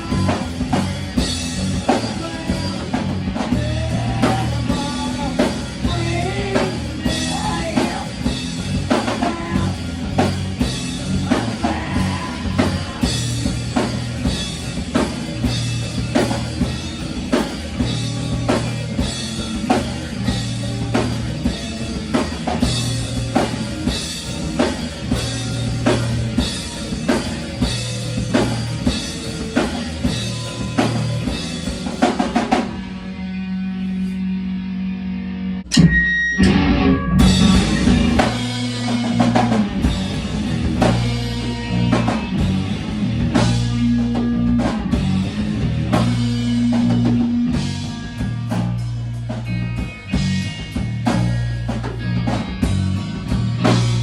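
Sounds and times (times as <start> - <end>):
drum kit beat: 0.0 - 34.2, 35.6 - 54.0
bass guitar notes: 0.0 - 54.0
rock band playing live: 0.0 - 54.0.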